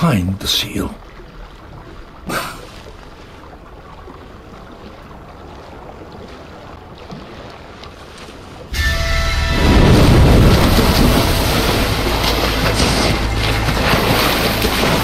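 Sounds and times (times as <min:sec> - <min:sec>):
water lapping among ice: 0:00.0 - 0:09.0, 0:10.0 - 0:15.0
water splash: 0:01.0 - 0:15.0.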